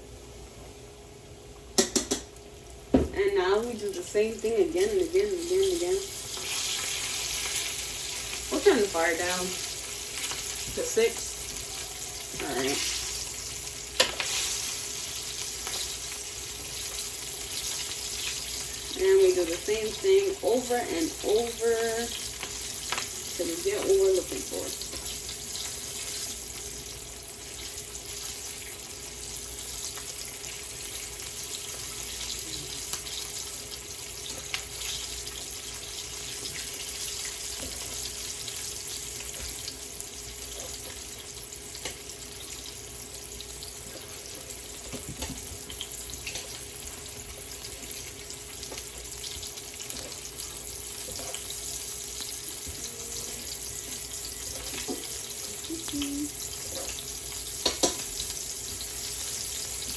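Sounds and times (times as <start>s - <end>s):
faint steady hum: 0.0s - 59.9s
chicken deep-frying in oil: 1.8s - 59.9s.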